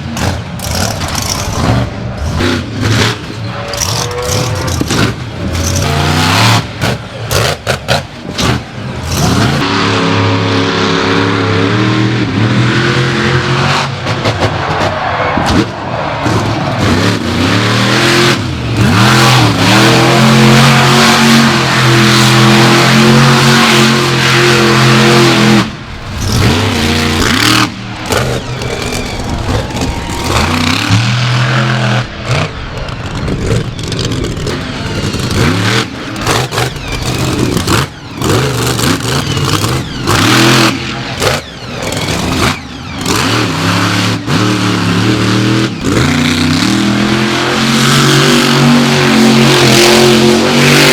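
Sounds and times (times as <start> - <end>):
monster truck engines revving: 0.0 - 50.9.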